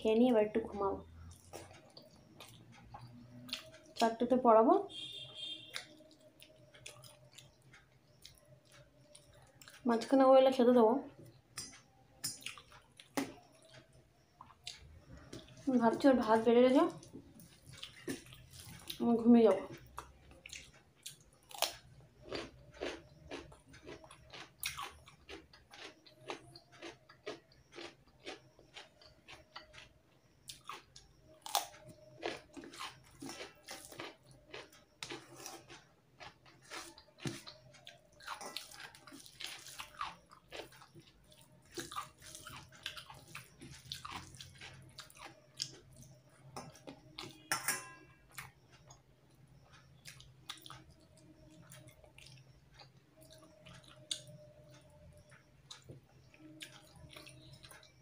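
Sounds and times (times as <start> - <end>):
chewing: 1.2 - 4.0, 5.7 - 10.1, 11.2 - 58.0.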